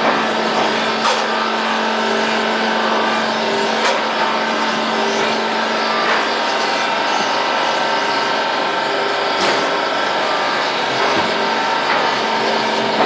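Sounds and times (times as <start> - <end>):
hydraulic press machinery running: 0.0 - 13.0.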